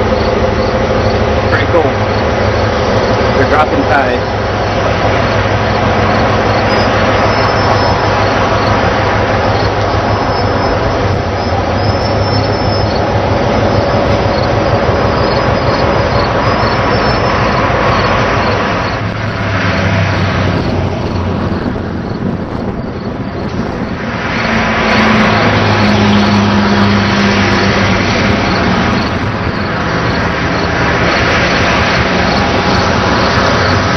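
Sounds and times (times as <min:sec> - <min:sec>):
diesel locomotive drone: 0:00.0 - 0:33.9
train wheels rumbling on rails: 0:00.0 - 0:33.9.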